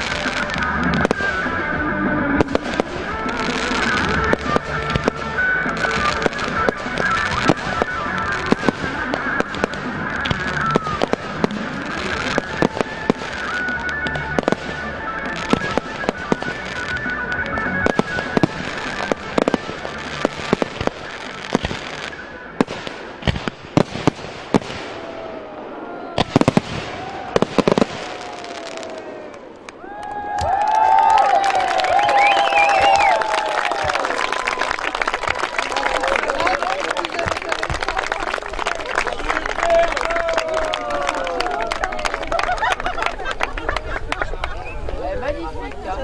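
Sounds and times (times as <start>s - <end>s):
fireworks bangs and crackling: 0.0s - 46.0s.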